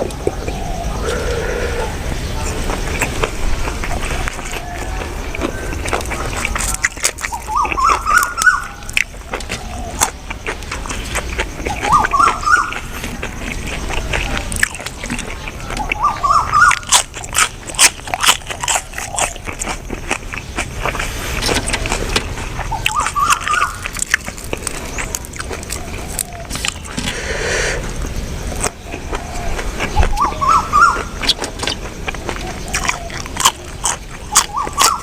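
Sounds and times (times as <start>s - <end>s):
person chewing loudly: 0.0s - 35.0s.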